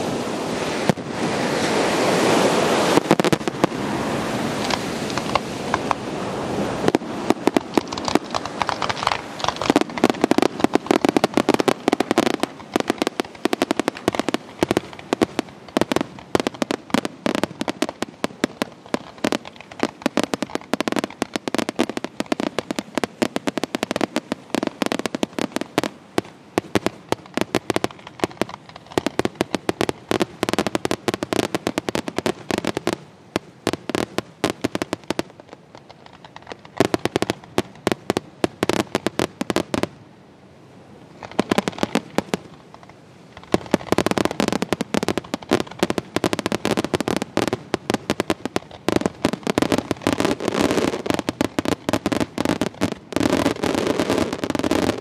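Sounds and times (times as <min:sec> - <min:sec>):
fireworks bangs and crackling: 0:00.0 - 0:40.1, 0:40.8 - 0:55.0.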